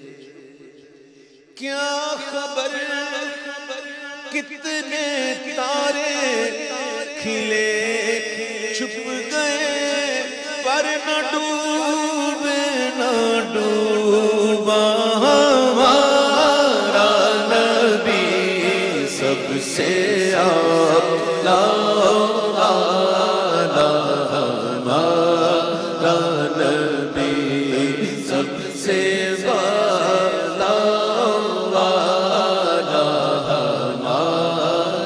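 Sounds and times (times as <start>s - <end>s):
man singing into a microphone: 0.0s - 35.0s.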